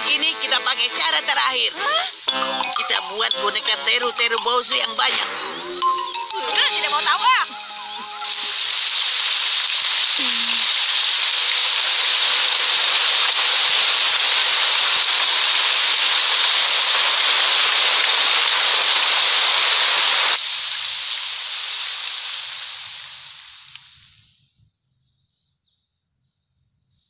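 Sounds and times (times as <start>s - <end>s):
heavy rain hissing: 0.0s - 4.0s, 6.4s - 24.3s.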